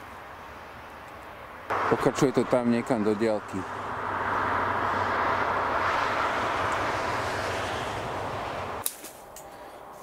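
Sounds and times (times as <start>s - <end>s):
motorway traffic tyre noise: 0.0s - 10.0s.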